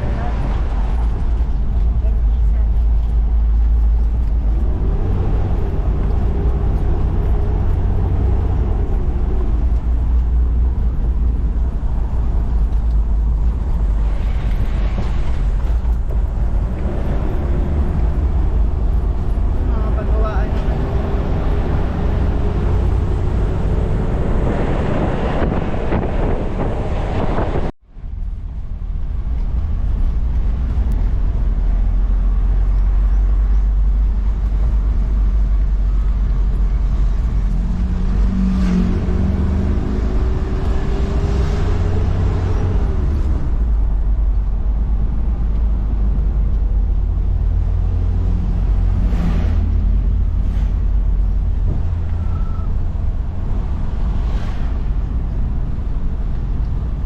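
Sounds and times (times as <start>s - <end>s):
engine and road noise rumble: 0.0s - 57.0s.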